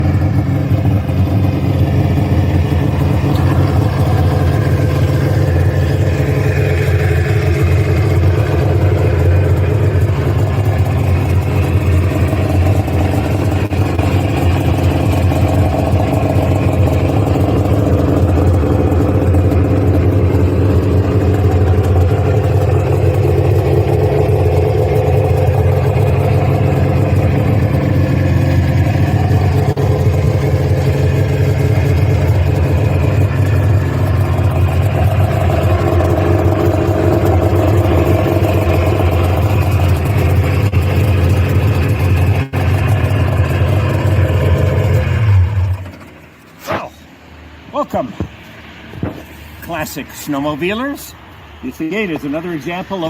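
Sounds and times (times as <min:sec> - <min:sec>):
snowmobile engine idling: 0:00.0 - 0:47.1.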